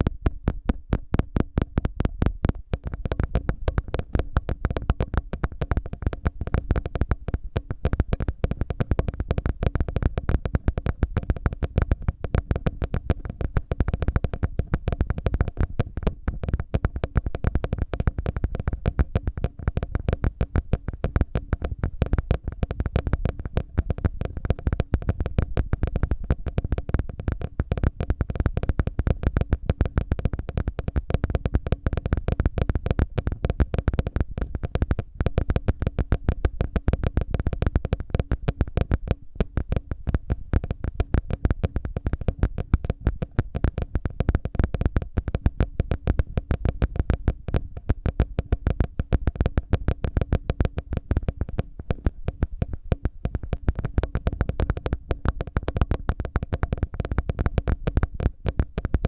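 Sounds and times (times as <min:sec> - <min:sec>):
ear pick scratching microphone: 0:00.0 - 0:59.0.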